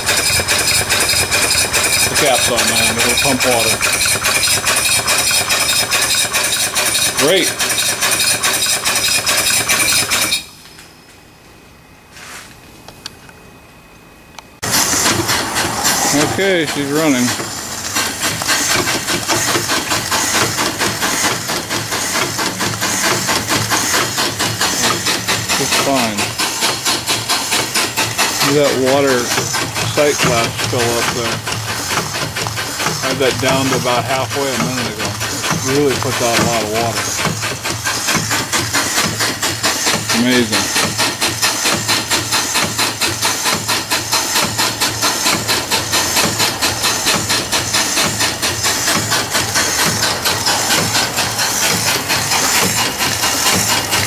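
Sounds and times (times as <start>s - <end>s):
feed pump clacking: 0.0s - 10.6s, 14.6s - 54.0s
steam hissing: 0.0s - 10.6s, 14.6s - 54.0s.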